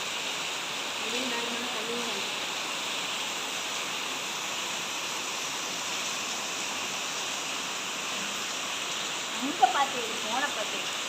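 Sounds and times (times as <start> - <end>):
rain pouring: 0.0 - 11.0.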